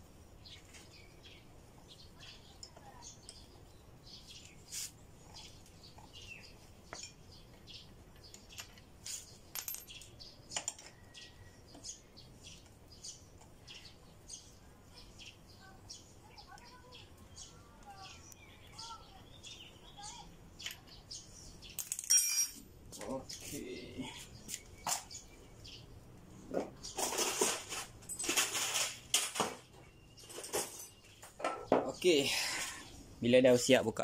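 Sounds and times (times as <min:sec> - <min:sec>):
birds chirping faintly: 0:00.0 - 0:34.0.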